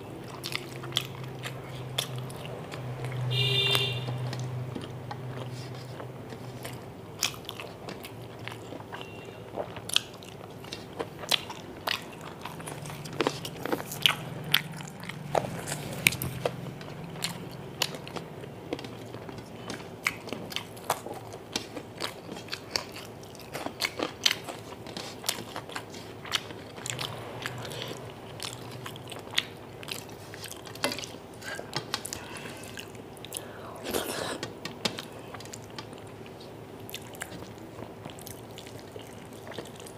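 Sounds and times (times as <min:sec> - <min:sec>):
person chewing and mouth-smacking: 0:00.0 - 0:39.9.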